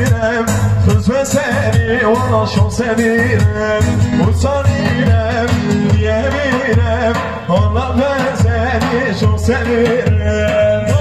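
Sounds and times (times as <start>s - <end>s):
folk dance music with singing: 0.0s - 11.0s
heavy drum and bass beat: 0.0s - 11.0s.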